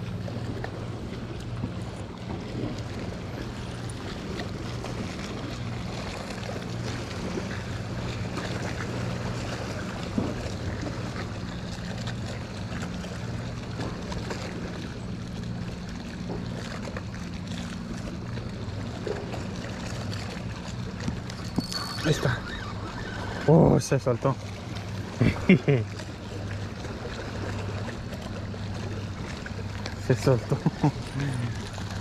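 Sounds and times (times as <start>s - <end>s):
steady low hum: 0.0s - 32.0s
water lapping: 0.0s - 32.0s.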